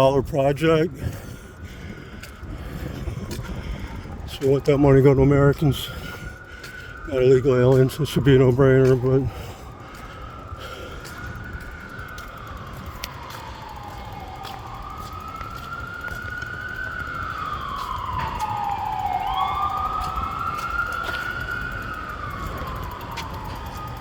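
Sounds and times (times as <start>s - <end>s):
emergency siren wailing: 0.0s - 24.0s
low traffic rumble: 0.0s - 24.0s.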